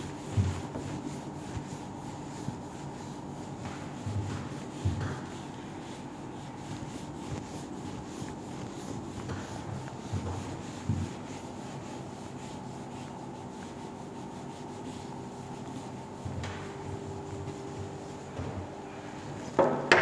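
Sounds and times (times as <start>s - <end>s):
eraser rubbing on whiteboard: 0.0s - 18.4s.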